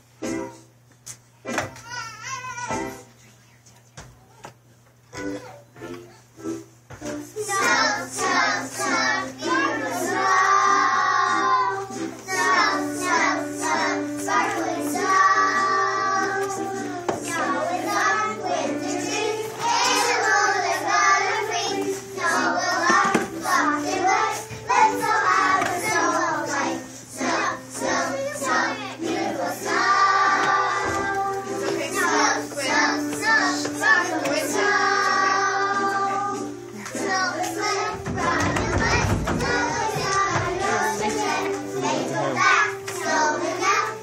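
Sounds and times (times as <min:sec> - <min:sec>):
instrumental accompaniment: 0:05.0 - 0:44.0
children's choir singing: 0:07.2 - 0:44.0.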